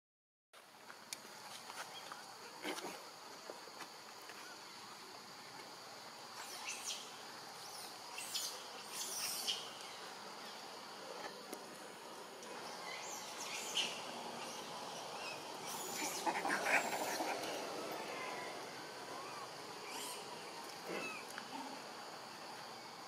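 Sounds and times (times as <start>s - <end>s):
insects droning: 0.6s - 23.0s.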